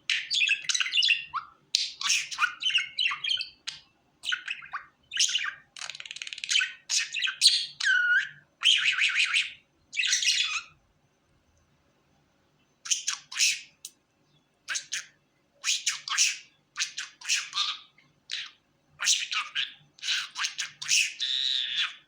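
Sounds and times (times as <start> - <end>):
budgerigar chattering and whistling: 0.1 - 10.8, 12.8 - 13.9, 14.7 - 22.0.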